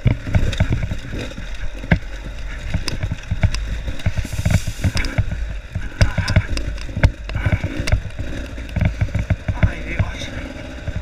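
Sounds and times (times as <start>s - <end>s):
bike knocking and rattling: 0.0s - 11.0s
dirt bike engine: 0.0s - 11.0s
wind noise: 0.0s - 11.0s.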